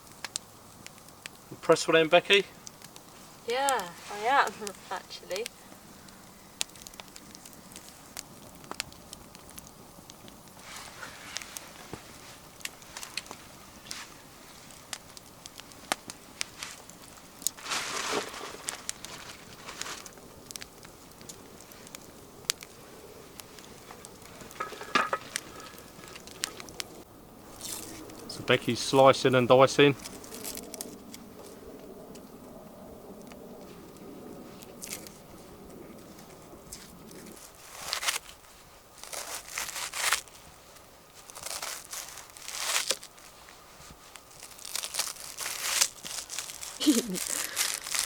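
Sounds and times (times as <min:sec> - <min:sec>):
sausages sizzling: 0:00.0 - 0:32.0, 0:41.0 - 0:48.0
campfire crackling: 0:00.0 - 0:48.0.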